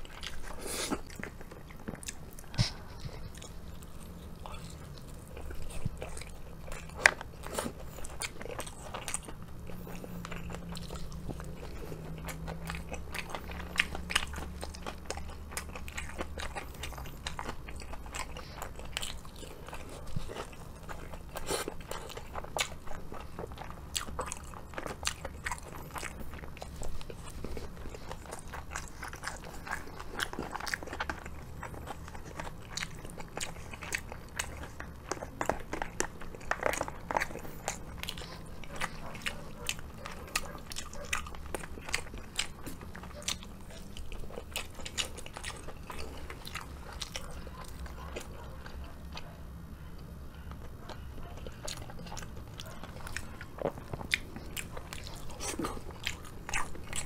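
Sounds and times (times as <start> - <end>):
crunchy chewing of fried chicken: 0.0 - 57.0
low steady hum: 0.0 - 57.0.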